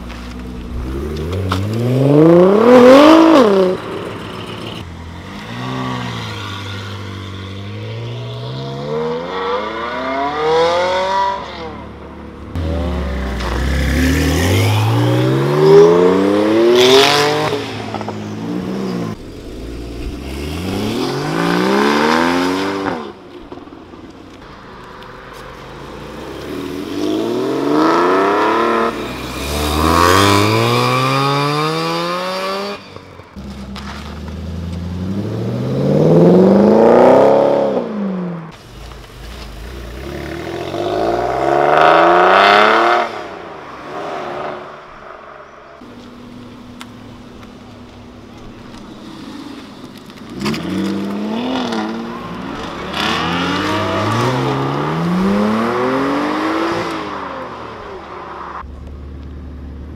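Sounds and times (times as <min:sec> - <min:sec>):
sports cars accelerating: 0:00.5 - 0:23.7, 0:24.8 - 0:32.8, 0:34.2 - 0:38.5, 0:39.7 - 0:58.7.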